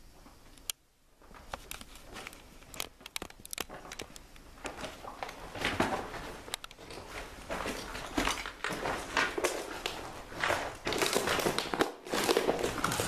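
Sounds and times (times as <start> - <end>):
footsteps crunching over rubble: 1.2 - 13.0.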